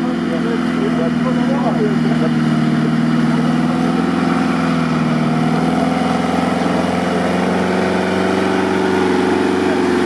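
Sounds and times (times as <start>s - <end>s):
vehicle engine running steadily: 0.0s - 10.0s.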